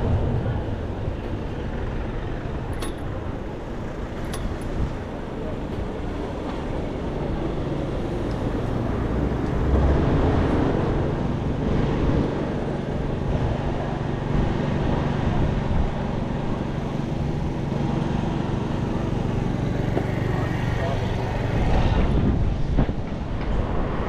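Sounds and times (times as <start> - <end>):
city street traffic: 0.0 - 24.0
low engine hum: 0.0 - 24.0.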